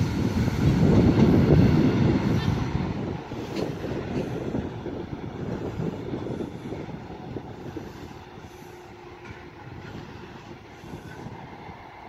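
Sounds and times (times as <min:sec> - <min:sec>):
diesel train engine and wheel rumble: 0:00.0 - 0:12.0.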